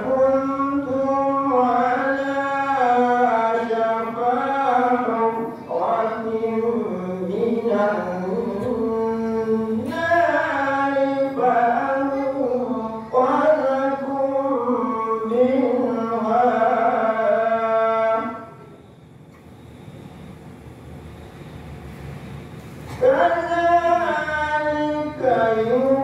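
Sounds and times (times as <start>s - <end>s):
man chanting a recitation: 0.0s - 18.8s, 22.9s - 26.0s.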